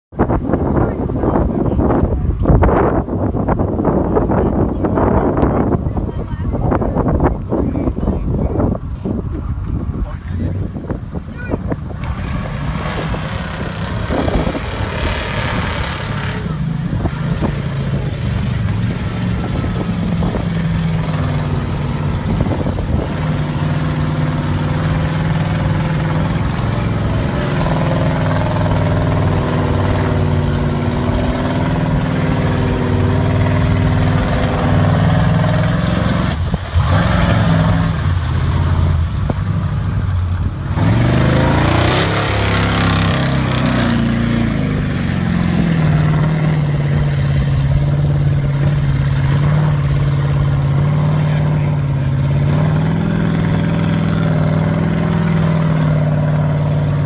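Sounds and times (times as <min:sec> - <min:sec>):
tires churning mud and water: 0:00.1 - 0:57.0
truck engine revving: 0:03.8 - 0:57.0.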